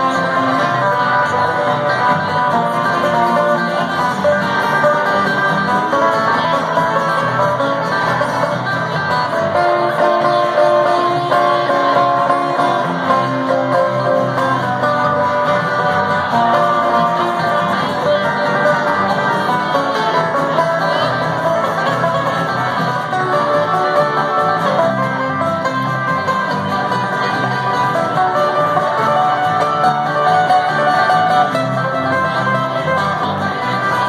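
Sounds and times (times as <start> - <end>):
banjo: 0.0 - 34.0
bluegrass band playing: 0.0 - 34.0.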